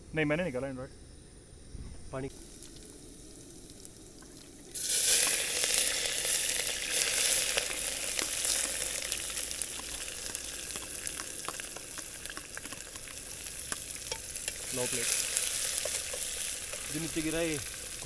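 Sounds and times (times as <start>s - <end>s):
food sizzling in hot oil: 2.3s - 18.0s
oil popping and crackling: 2.3s - 18.0s.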